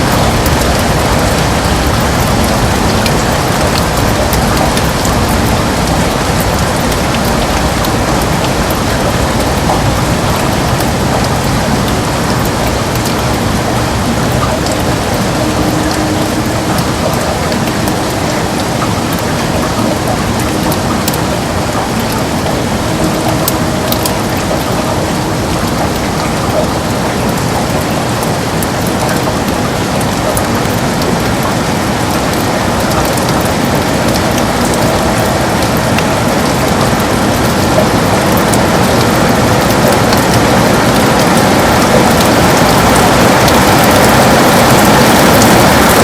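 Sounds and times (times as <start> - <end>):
heavy rain on a window: 0.0 - 46.0.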